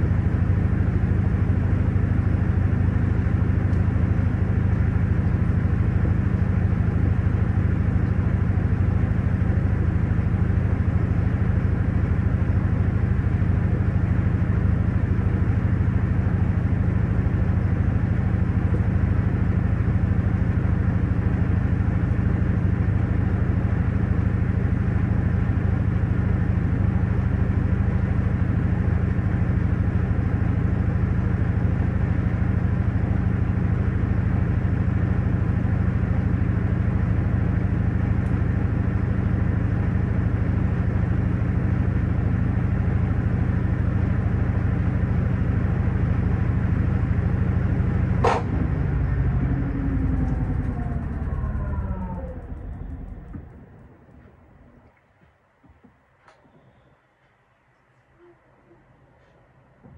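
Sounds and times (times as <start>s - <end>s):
washing machine spinning: 4.3s - 54.8s.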